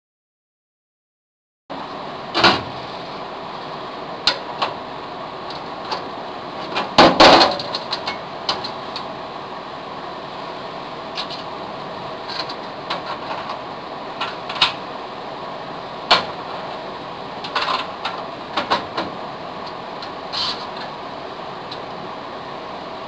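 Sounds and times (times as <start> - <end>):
steady background noise: 1.7 - 23.0.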